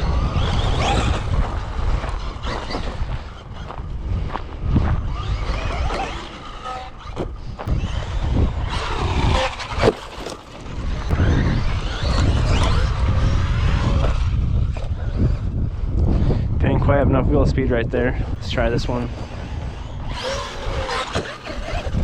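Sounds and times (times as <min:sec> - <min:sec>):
electric motor whining: 0:00.0 - 0:16.4, 0:18.4 - 0:22.0.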